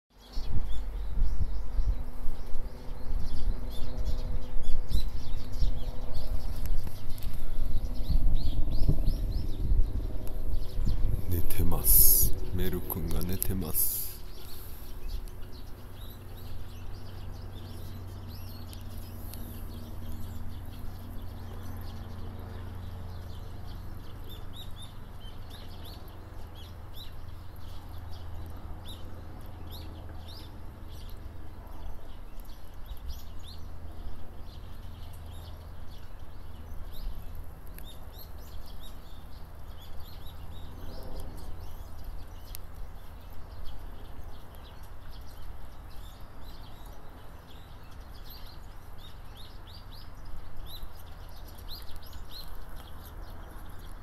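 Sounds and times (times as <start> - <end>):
small birds chirping: 0.1 - 54.0
steady low hum: 0.3 - 54.0.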